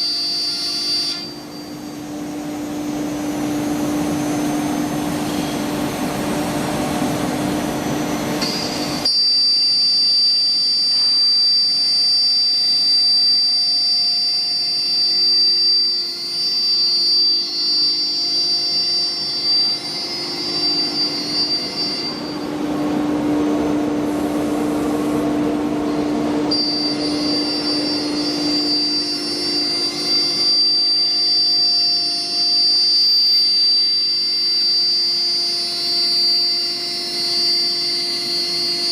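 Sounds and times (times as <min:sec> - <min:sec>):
machine noise: 0:00.0 - 0:38.9
router high whine: 0:00.0 - 0:38.9.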